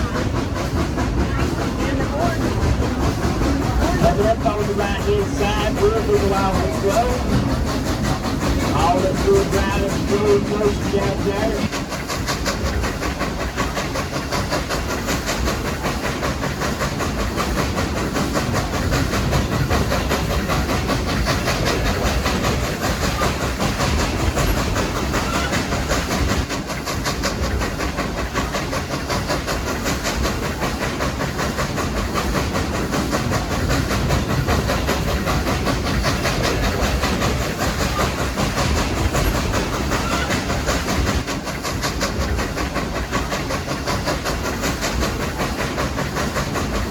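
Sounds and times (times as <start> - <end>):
steam locomotive steam: 0.0 - 46.9
train wheels clattering on rail: 0.0 - 46.9.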